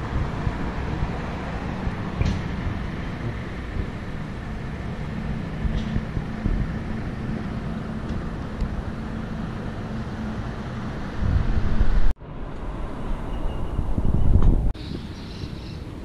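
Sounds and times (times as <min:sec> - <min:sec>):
wind on microphone: 0:00.0 - 0:09.8, 0:10.8 - 0:12.2, 0:13.2 - 0:15.9
road noise: 0:00.0 - 0:16.0.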